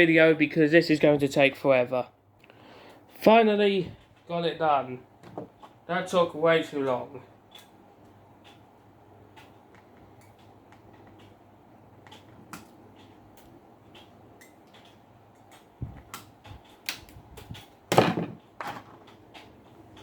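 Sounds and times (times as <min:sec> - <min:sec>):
fan parts clicking and knocking: 0:02.9 - 0:20.0.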